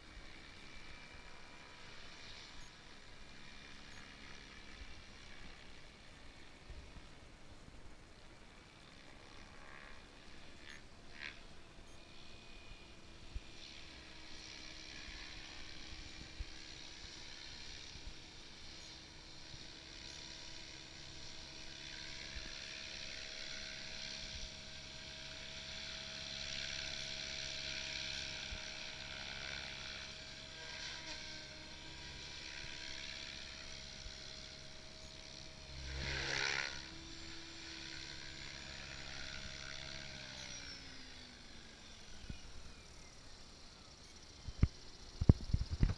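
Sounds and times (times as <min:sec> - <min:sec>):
rc helicopter motor and rotors whining: 0:00.0 - 0:45.9.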